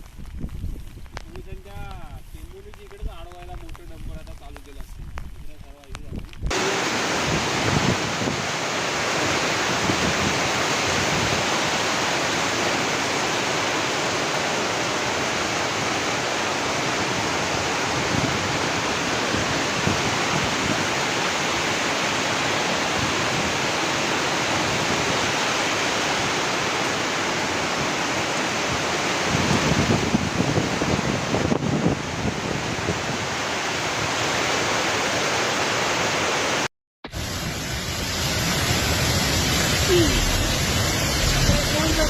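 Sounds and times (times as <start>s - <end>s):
floodwater rushing: 6.5s - 42.0s.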